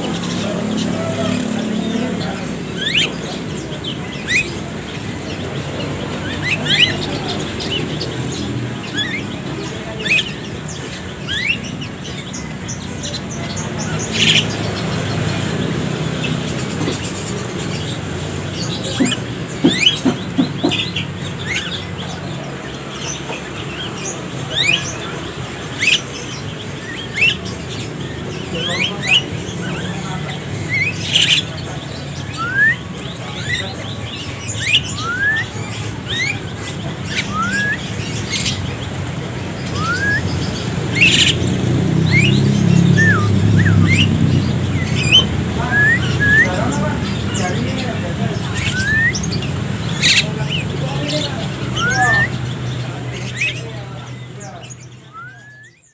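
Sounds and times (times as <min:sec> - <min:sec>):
mynas chirping: 0:00.0 - 0:55.9.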